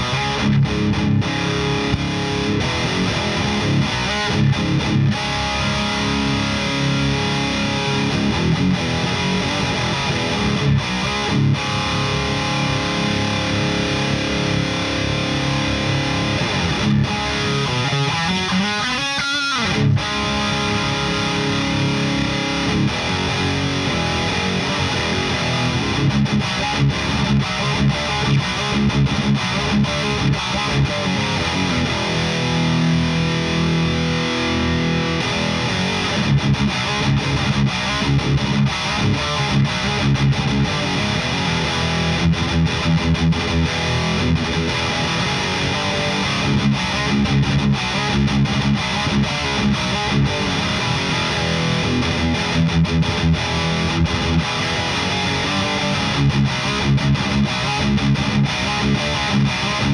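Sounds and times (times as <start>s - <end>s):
distorted electric guitar riffing: 0.0s - 59.9s
guitar slide: 0.0s - 59.9s.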